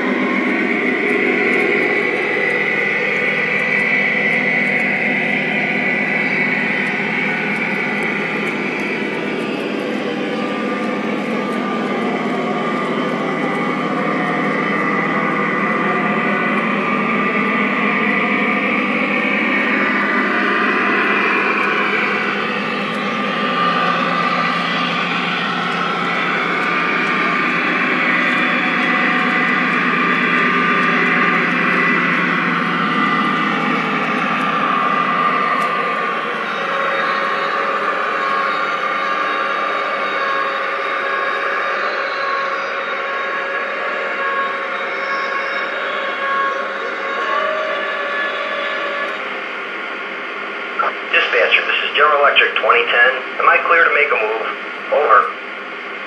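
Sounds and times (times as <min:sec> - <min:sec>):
model train whirring on track: 0:00.0 - 0:50.6
high whine: 0:00.0 - 0:56.0.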